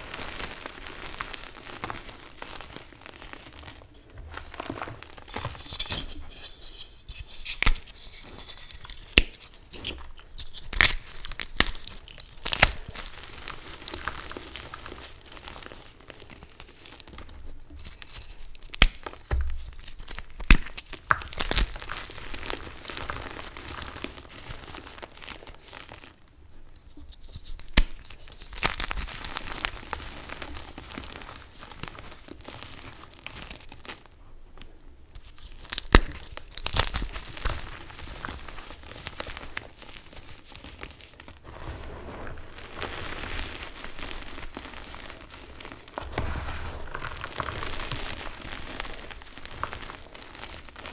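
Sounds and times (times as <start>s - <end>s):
chalk crumbling and crunching: 0.0s - 26.1s, 35.1s - 50.9s.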